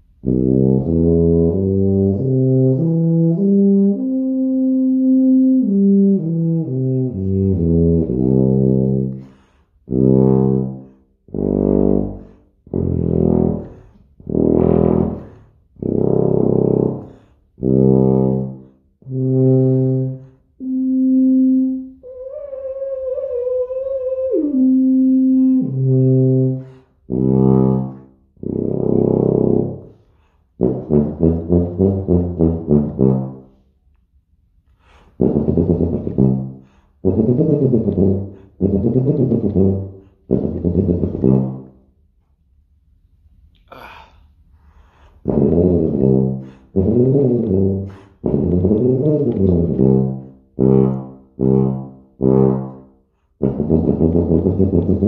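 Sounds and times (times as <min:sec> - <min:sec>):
tuba playing: 0:00.0 - 0:33.7, 0:34.9 - 0:42.0, 0:44.9 - 0:55.0.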